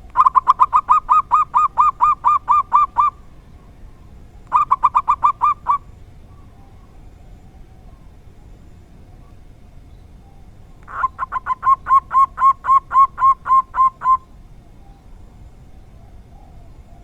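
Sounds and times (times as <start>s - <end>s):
dove cooing: 0.0s - 8.2s, 10.8s - 17.0s.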